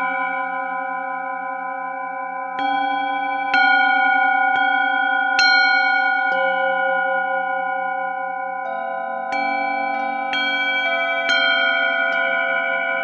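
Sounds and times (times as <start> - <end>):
singing bowls ringing: 0.0 - 13.0.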